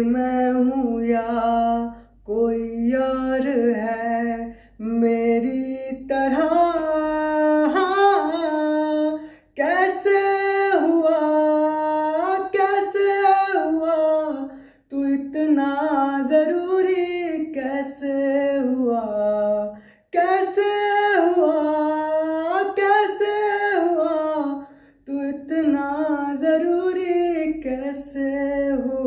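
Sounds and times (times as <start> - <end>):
man singing unaccompanied: 0.0 - 29.0.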